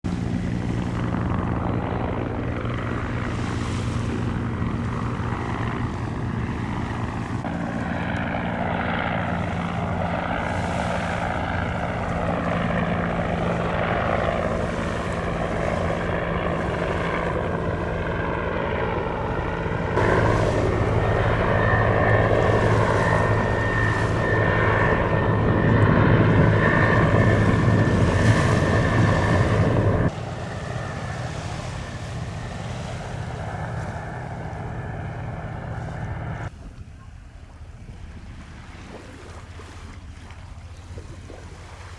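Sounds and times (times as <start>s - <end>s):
engine drone: 0.0s - 41.8s.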